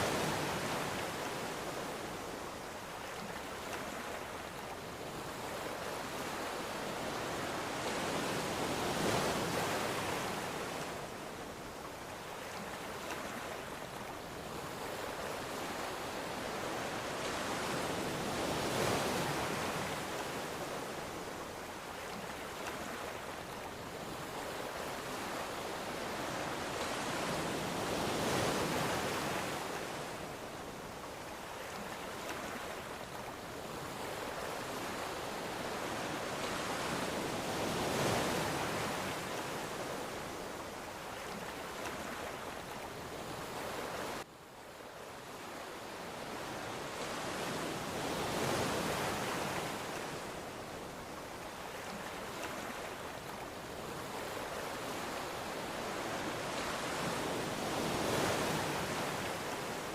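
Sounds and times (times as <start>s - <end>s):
waves breaking and washing ashore: 0.0s - 59.9s.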